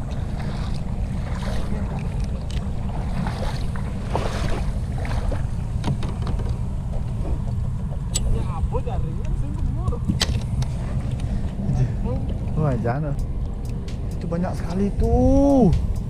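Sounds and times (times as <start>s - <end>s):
light water sounds: 0.0s - 16.0s
wind buffeting microphone: 0.0s - 16.0s.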